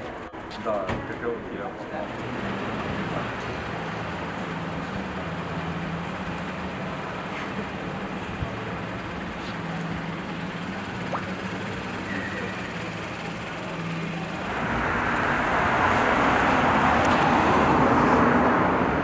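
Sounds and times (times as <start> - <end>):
low engine hum: 0.0 - 19.0
passing traffic rushing: 0.0 - 19.0.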